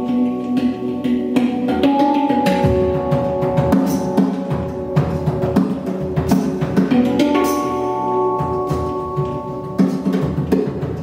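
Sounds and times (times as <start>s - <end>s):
handpan notes ringing: 0.0s - 11.0s
low thumps on handpan: 0.0s - 11.0s.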